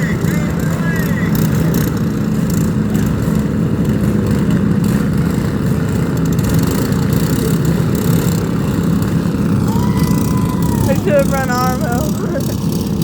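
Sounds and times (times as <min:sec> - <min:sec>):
small vehicle engines droning: 0:00.0 - 0:13.0.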